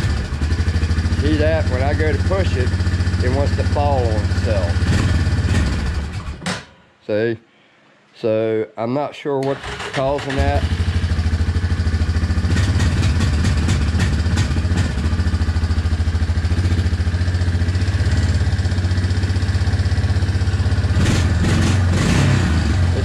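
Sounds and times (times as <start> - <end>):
atv engine idling and revving: 0.0 - 6.4, 9.6 - 23.0.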